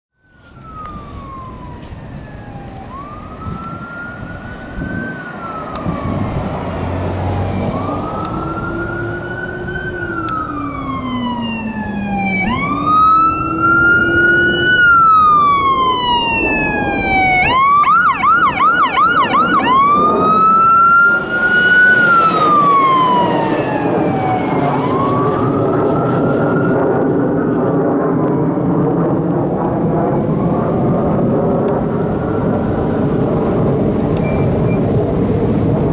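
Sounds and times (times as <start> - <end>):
engine and road noise: 0.1 - 35.9
ambulance siren wailing: 0.2 - 35.9
deep low-frequency siren tone: 0.2 - 35.9
siren yelp: 0.2 - 35.9.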